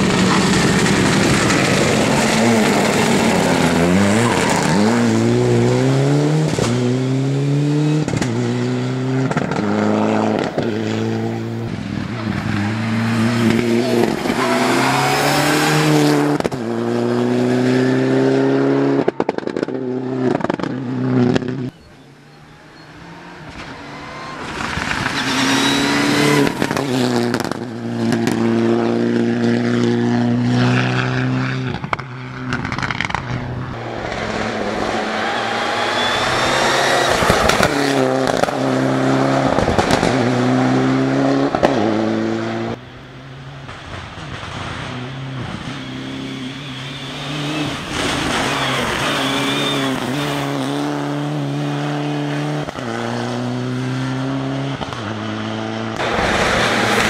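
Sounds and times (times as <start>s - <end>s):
rally car engine revving: 0.0s - 21.9s, 22.7s - 42.8s, 43.7s - 57.0s.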